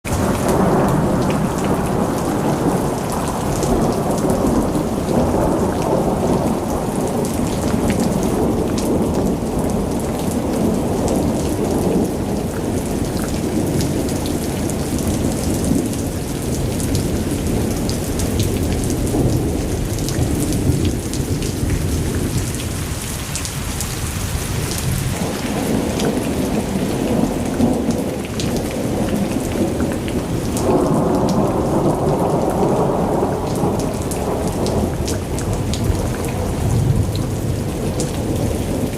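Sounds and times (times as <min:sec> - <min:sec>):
heavy rain downpour: 0:00.0 - 0:38.9
raindrops ticking on surface: 0:00.0 - 0:38.9
thunder rumbling: 0:00.1 - 0:38.9.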